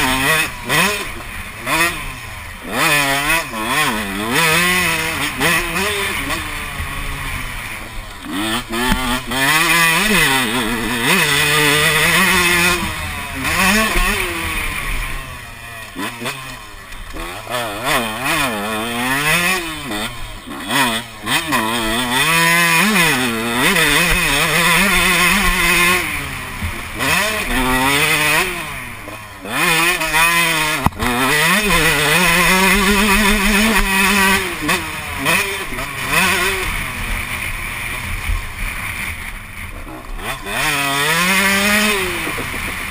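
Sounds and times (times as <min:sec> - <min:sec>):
constant rushing noise: 0:00.0 - 0:42.9
motocross bike engine revving: 0:00.0 - 0:42.9.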